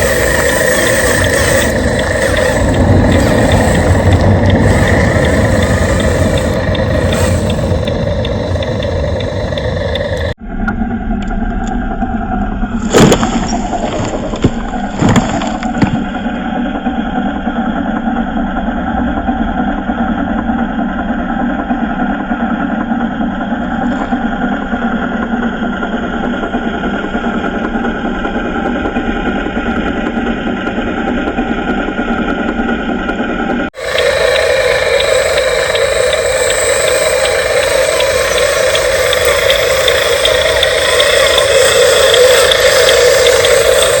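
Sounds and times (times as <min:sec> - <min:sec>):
rc truck motor humming: 0:00.0 - 0:44.0.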